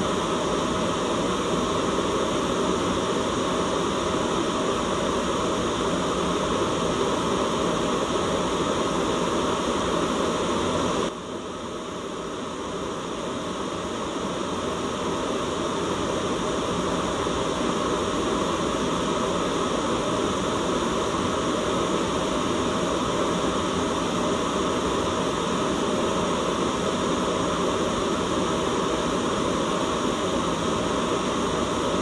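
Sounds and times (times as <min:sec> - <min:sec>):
white-noise hiss: 0:00.0 - 0:32.0.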